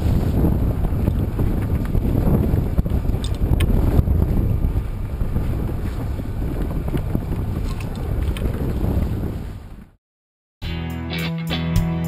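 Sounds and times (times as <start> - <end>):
water washing along hull: 0.0 - 10.0
wind buffeting microphone: 0.0 - 10.0.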